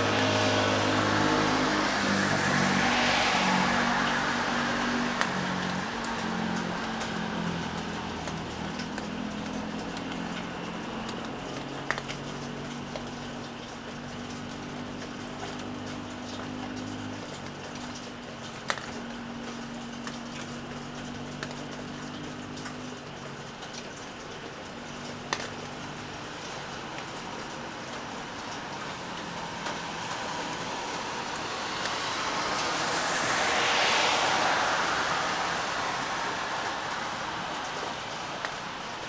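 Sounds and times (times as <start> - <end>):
sharp drips: 0.0 - 39.0
steady rain falling: 0.0 - 39.0
vehicle passing on wet road: 0.0 - 39.0.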